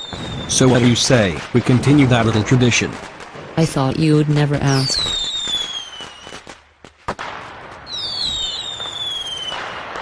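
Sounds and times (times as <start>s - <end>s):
firework bang: 0.0s - 10.0s
fireworks crackling: 0.0s - 10.0s
fireworks falling whistles: 0.0s - 10.0s.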